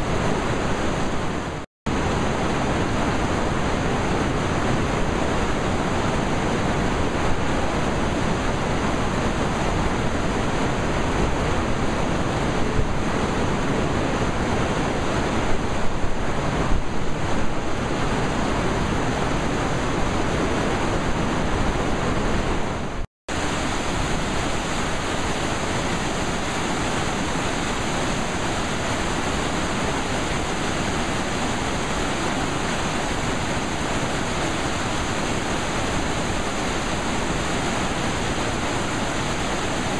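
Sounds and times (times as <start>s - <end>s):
whitewater rapids roaring: 0.0s - 39.9s.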